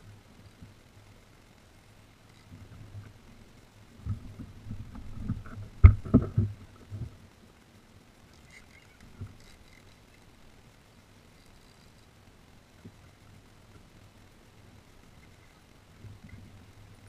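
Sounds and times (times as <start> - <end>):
faint clicks: 0.0 - 3.3, 4.0 - 17.0.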